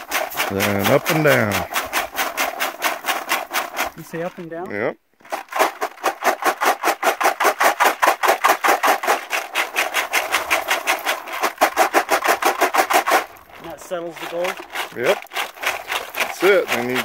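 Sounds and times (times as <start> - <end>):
sand rattling in shaken metal box: 0.0 - 4.6, 5.2 - 17.0.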